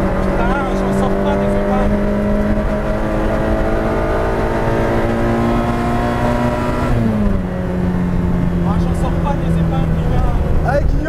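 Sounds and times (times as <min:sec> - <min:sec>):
car engine pulling hard: 0:00.0 - 0:11.0.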